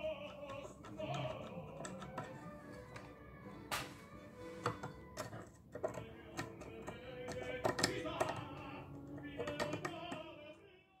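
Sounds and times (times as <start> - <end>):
carving tool clicks and taps: 0.0 - 3.1, 4.6 - 10.3
background music with held tones: 0.0 - 11.0.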